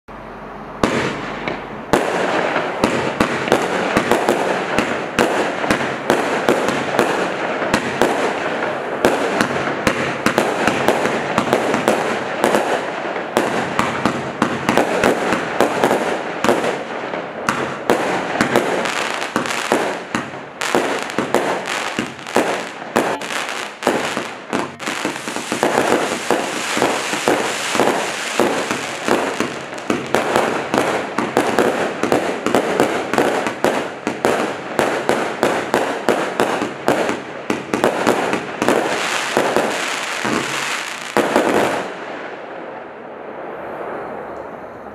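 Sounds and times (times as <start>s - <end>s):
firework launches and bursts: 0.8s - 42.0s
hissing firework crackle: 0.8s - 42.2s.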